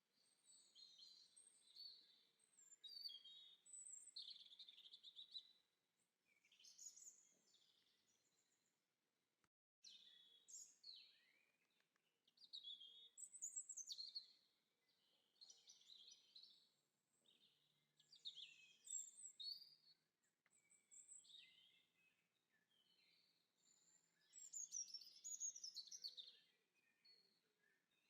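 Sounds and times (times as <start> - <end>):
songbirds chirping: 0.0 - 8.9, 9.8 - 28.0.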